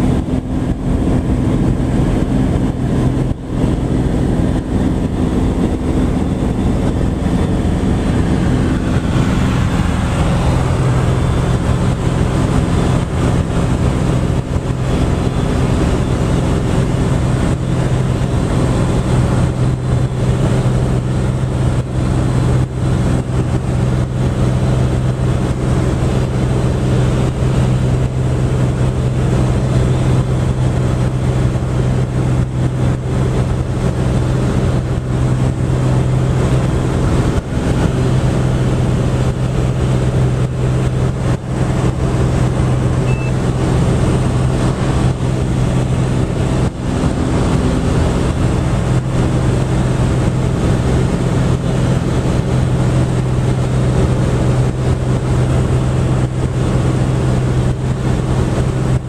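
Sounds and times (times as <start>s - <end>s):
airflow rushing past cabin: 0.0s - 59.0s
propeller engine running: 0.0s - 59.0s.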